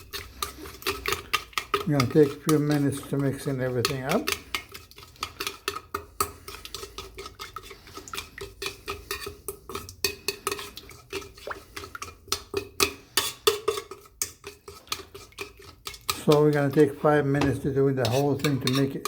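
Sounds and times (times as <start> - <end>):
utensil clinking against bowl: 0.0 - 19.0.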